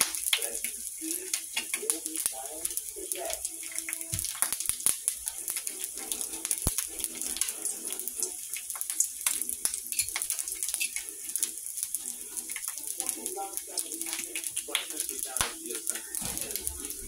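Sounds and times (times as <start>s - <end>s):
bacon sizzling in a pan: 0.0s - 17.0s
fat crackling and popping: 0.0s - 17.0s.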